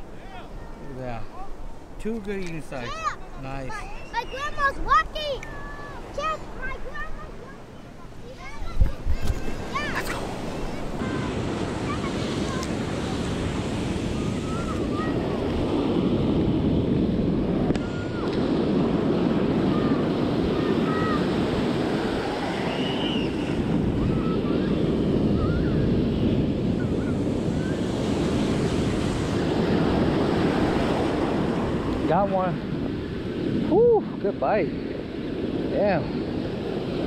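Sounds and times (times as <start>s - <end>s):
ocean surf breaking: 0.0s - 37.0s
wind buffeting microphone: 0.0s - 37.0s.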